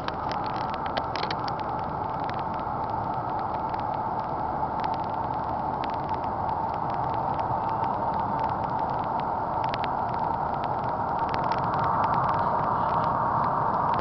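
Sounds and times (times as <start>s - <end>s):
distant jet engines roaring: 0.0s - 14.0s.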